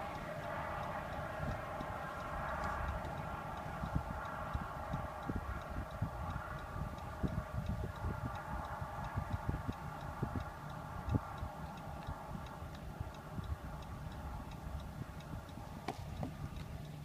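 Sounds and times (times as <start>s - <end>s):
fast mechanical ticking: 0.0s - 17.0s
steady hum: 0.0s - 17.0s.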